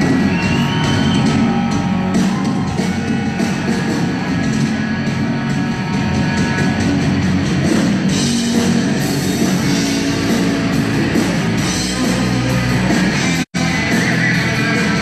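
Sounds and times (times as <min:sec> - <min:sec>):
heavy rock band playing: 0:00.0 - 0:15.0.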